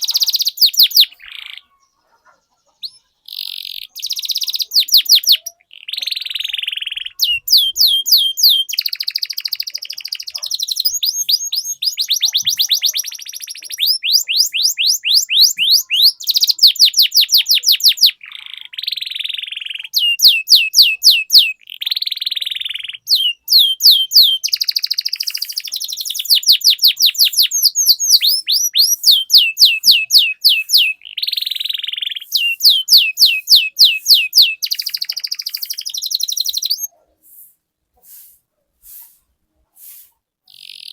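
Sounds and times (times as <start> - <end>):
canary singing: 0.0 - 37.2, 40.4 - 40.9.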